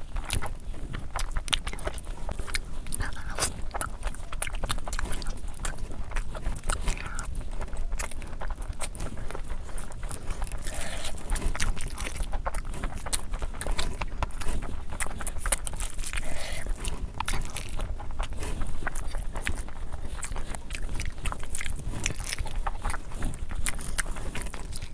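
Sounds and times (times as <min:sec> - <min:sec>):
person chewing food: 0:00.0 - 0:24.9.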